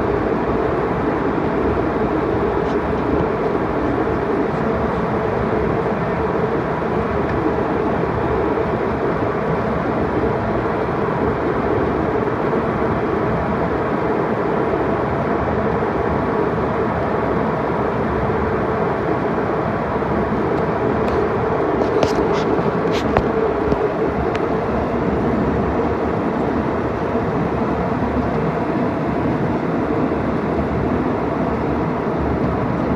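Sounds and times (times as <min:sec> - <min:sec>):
jet engines roaring in cabin: 0:00.0 - 0:32.9.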